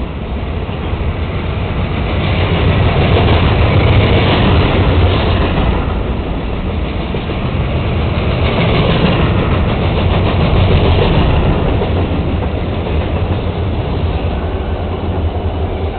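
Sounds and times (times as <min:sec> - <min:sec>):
diesel locomotive: 0:00.0 - 0:15.9
train wheels rumbling on rails: 0:00.0 - 0:15.9.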